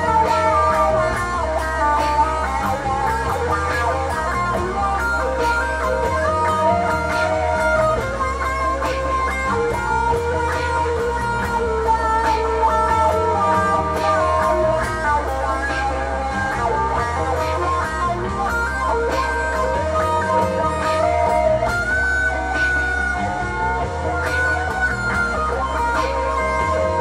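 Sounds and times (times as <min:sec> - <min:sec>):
electric guitar: 0:00.0 - 0:27.0
looped guitar parts: 0:00.0 - 0:27.0
low bass line: 0:00.0 - 0:27.0.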